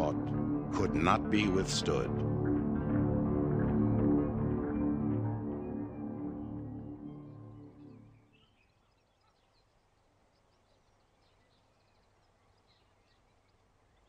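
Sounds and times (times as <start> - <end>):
soft ambient music: 0.0 - 13.6.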